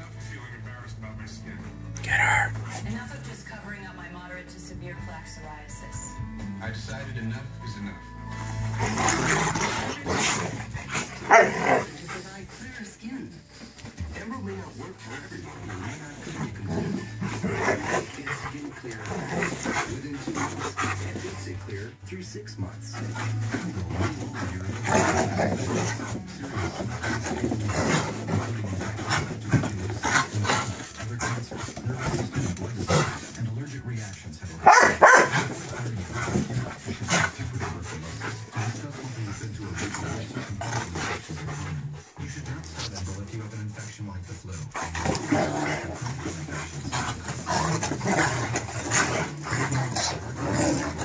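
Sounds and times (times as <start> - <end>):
dogs panting hard: 8.3 - 51.0.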